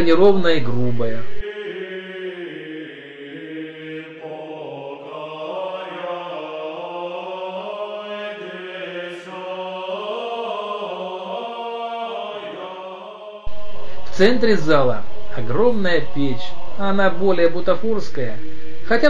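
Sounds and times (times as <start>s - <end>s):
slow wordless voices singing: 1.3s - 19.0s.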